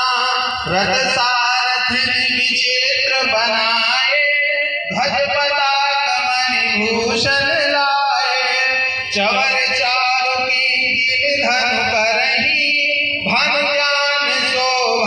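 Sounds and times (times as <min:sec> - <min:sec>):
man singing devotional chant: 0:00.0 - 0:15.0.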